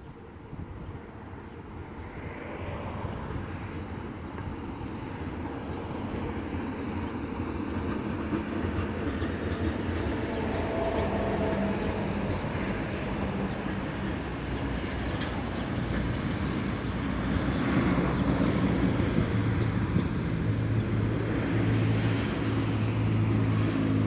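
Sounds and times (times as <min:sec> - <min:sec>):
passenger train rumbling on rails: 0:00.0 - 0:24.0.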